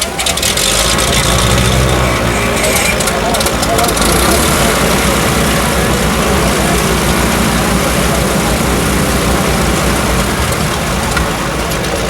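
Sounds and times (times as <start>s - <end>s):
propeller airplane engine running: 0.0s - 12.0s.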